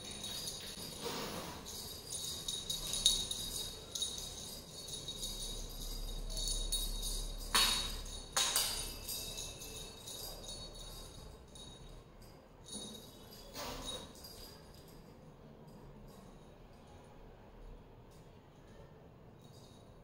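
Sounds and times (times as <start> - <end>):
small bells jingling: 0.0 - 17.1, 19.4 - 20.0.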